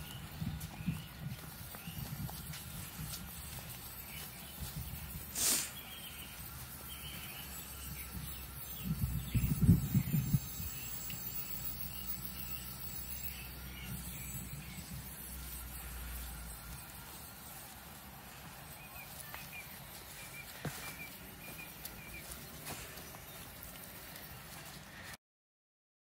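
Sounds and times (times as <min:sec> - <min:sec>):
small birds chirping: 0:00.0 - 0:25.1.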